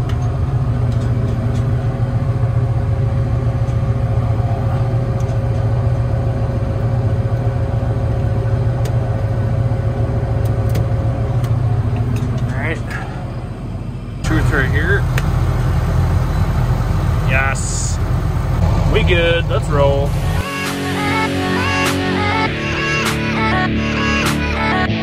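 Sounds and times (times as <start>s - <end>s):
tractor engine idling: 0.0s - 20.4s.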